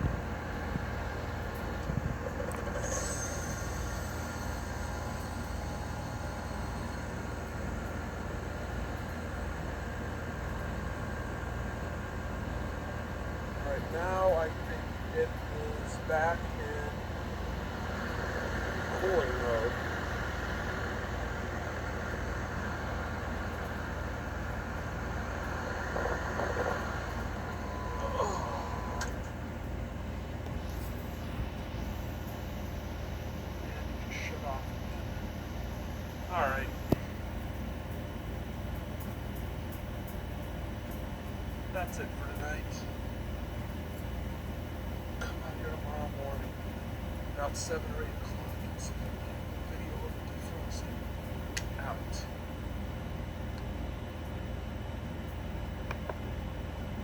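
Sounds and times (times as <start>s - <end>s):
heat pump machine hum: 0.0s - 57.0s.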